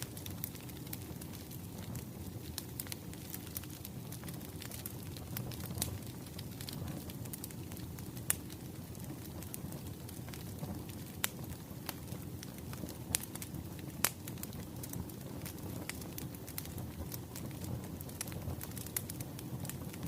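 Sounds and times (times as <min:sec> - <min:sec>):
fire pops and snaps: 0:00.0 - 0:20.0
low rumble of burning logs: 0:00.0 - 0:20.0.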